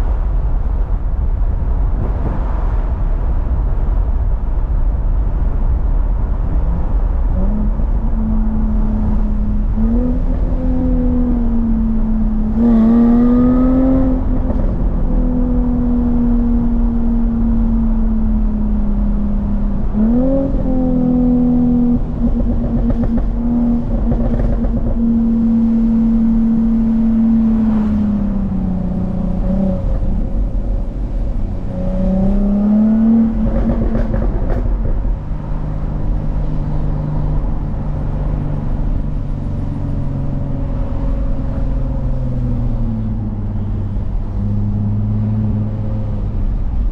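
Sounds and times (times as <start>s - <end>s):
car engine revving: 6.4s - 46.9s.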